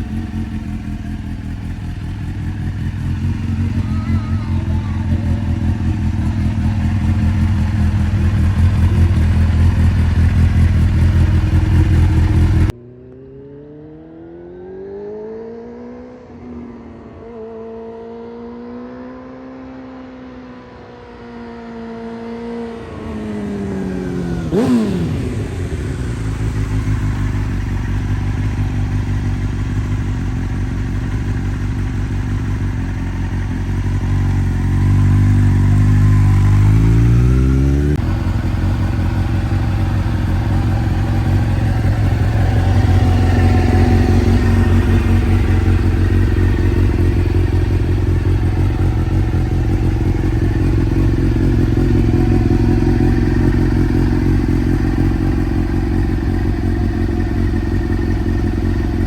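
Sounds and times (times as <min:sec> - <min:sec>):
motorcycle engine idling: 0:00.0 - 0:12.8, 0:24.5 - 0:59.0.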